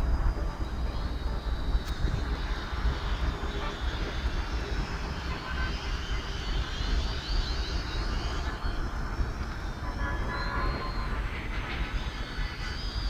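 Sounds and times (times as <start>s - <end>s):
drone propellers whining: 0.0s - 13.0s
steady low rumble: 0.0s - 13.0s.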